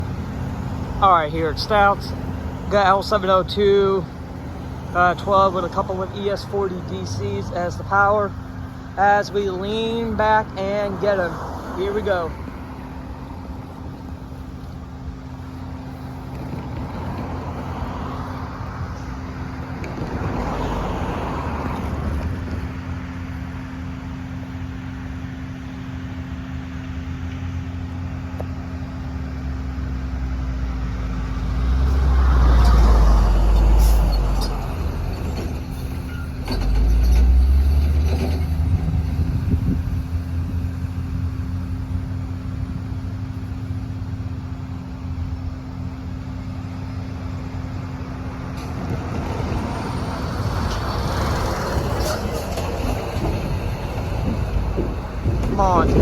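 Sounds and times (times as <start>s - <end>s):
diesel locomotive engine drone: 0.0s - 56.0s
train cars rumbling and rattling: 0.0s - 56.0s.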